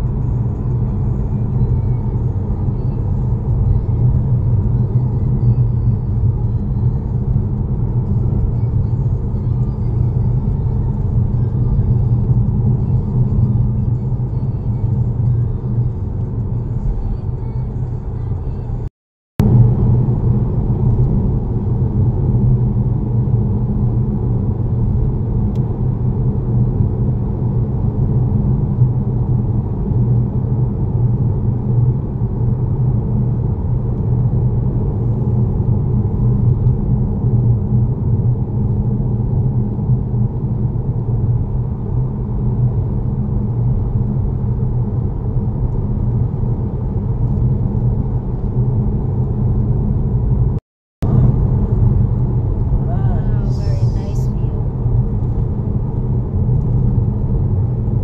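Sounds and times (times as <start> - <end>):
car interior road rumble: 0.0 - 58.0.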